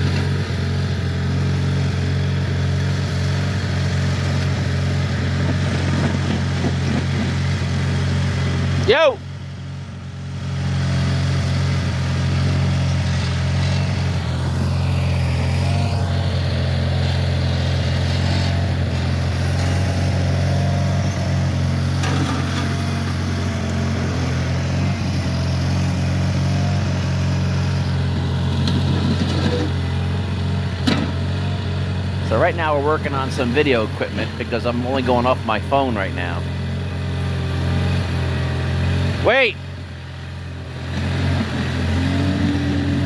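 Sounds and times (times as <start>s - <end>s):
garden tractor engine running: 0.0s - 43.0s.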